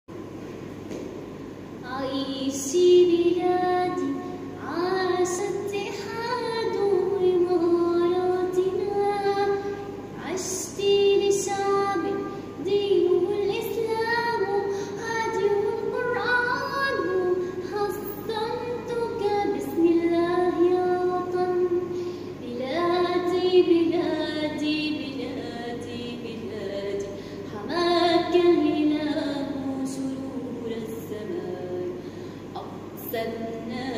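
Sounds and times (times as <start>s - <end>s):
woman singing: 1.8s - 32.0s, 32.6s - 33.9s.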